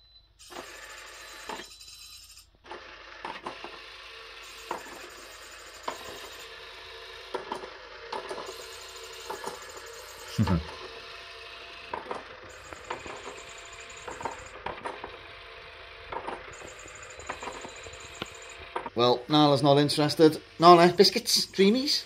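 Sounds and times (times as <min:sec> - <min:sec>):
toy motor whirring: 0:00.4 - 0:22.0.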